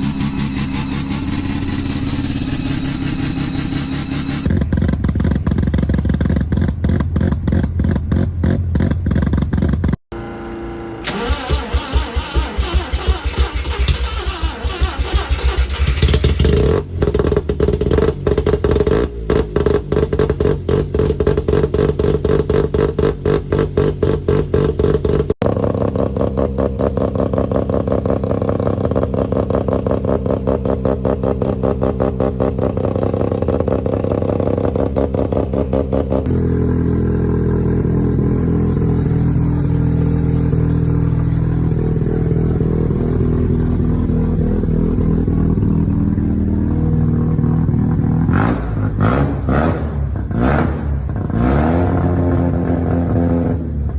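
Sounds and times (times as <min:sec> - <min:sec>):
rotary engine choppy idle: 0:00.0 - 0:10.0, 0:11.0 - 0:48.3.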